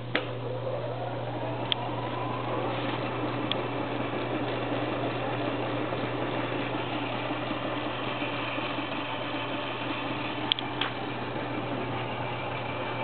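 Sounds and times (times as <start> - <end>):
mechanical rushing noise: 0.0 - 13.0
washing machine motor hum: 0.0 - 13.0.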